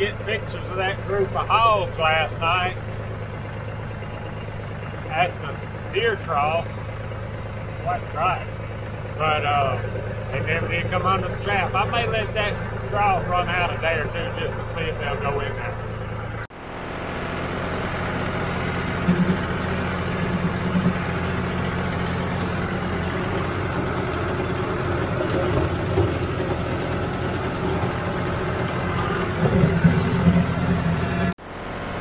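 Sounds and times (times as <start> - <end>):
mower rattling: 0.0 - 31.4
tractor diesel engine: 0.0 - 32.0.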